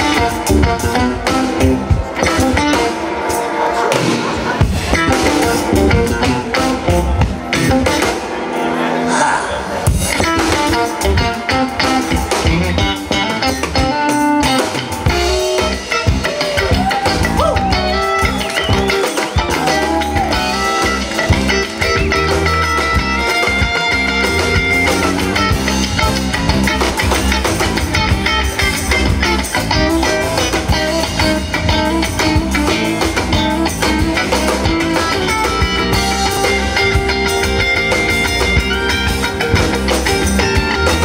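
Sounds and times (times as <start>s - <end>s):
electric guitar: 0.0s - 41.0s
live band playing: 0.0s - 41.0s.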